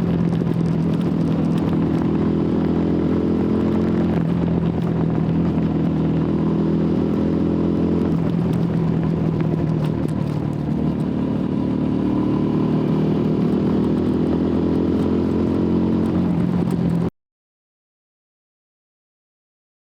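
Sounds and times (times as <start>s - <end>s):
motorcycle engine running: 0.0s - 17.1s.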